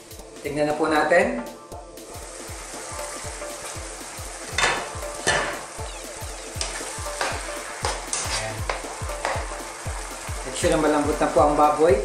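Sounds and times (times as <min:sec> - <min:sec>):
broth bubbling and sizzling: 0:01.2 - 0:12.0
low repeating beat: 0:01.5 - 0:12.0.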